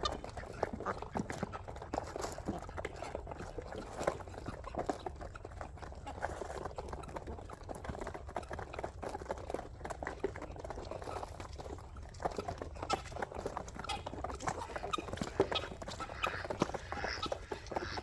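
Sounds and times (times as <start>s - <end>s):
birds pecking and tapping: 0.0s - 18.0s.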